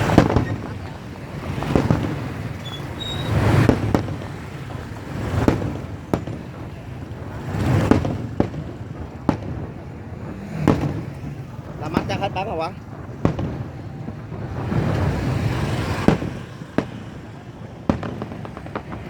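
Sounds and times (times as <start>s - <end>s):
distant firework bangs: 0.0s - 19.0s
traffic passing on a bridge: 0.0s - 19.0s.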